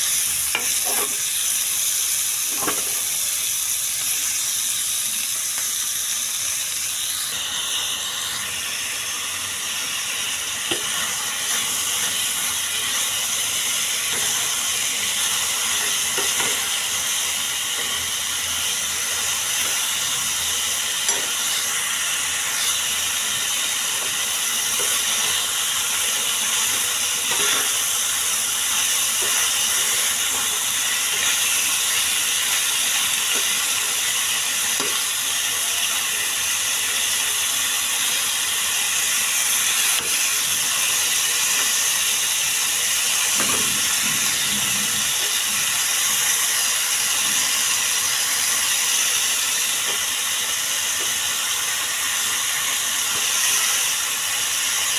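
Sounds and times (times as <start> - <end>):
chicken sizzling in hot oil: 0.0 - 54.9.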